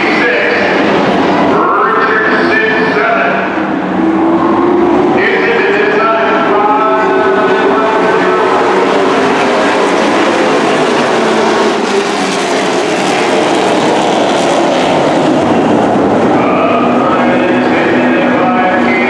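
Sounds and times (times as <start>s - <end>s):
race truck engines roaring: 0.0s - 19.0s.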